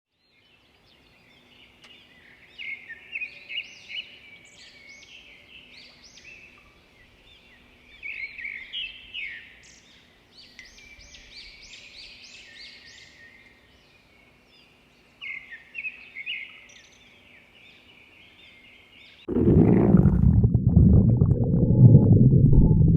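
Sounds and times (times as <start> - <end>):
songbirds chirping and trilling: 0.2 - 19.3.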